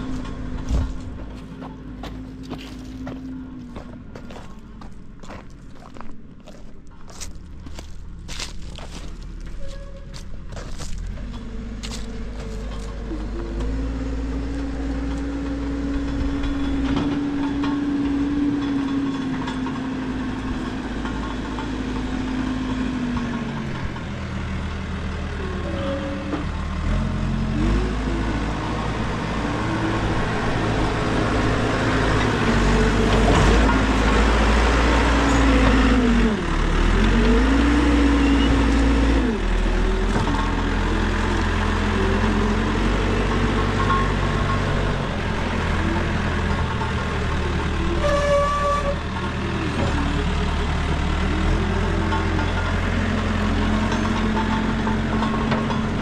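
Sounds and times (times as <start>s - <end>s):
backhoe diesel engine revving: 0.0s - 56.0s.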